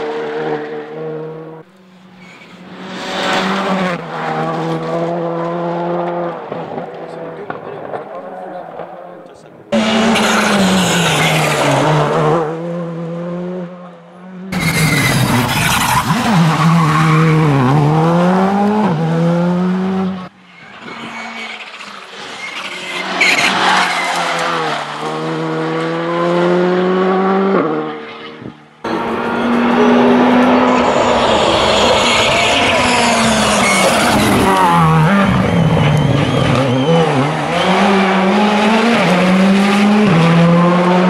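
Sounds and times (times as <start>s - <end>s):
rally car engine revving hard: 2.8s - 8.0s, 9.7s - 20.3s, 23.0s - 41.0s.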